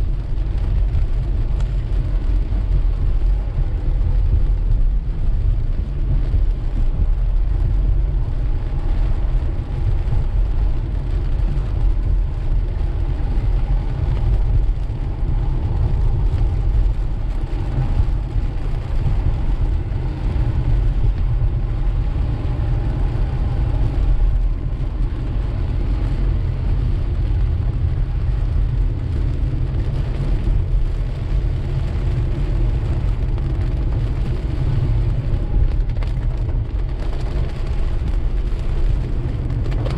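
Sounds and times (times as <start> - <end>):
car road and engine rumble: 0.0 - 39.9
hiss of tyres and rain: 0.0 - 39.9.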